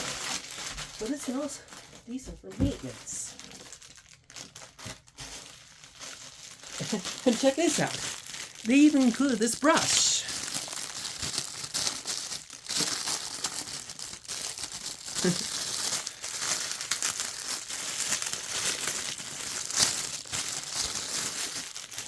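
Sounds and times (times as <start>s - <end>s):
packaging crinkling: 0.0s - 22.0s.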